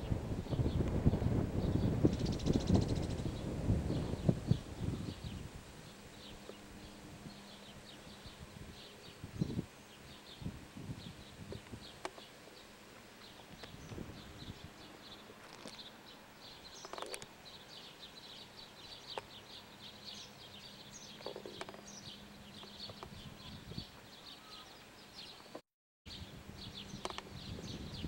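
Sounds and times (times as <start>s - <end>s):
steady low hum: 0.0s - 25.1s
small birds chirping: 0.0s - 28.0s.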